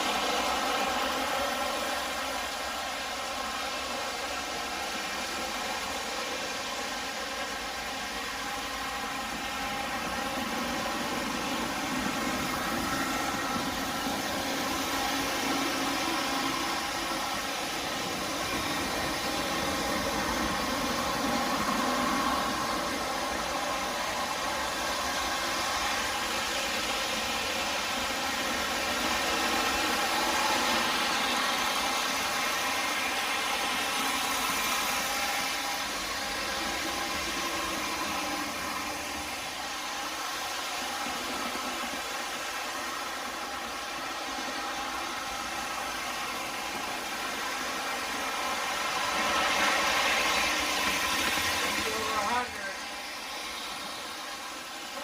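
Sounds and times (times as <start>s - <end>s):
model train diesel engine sound: 0.0s - 55.0s.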